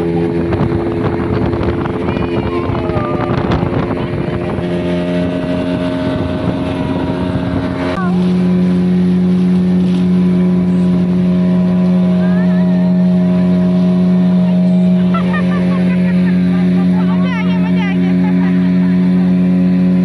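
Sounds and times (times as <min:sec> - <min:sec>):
motorboat engine running: 0:00.0 - 0:20.0
wind and water rushing: 0:00.0 - 0:20.0.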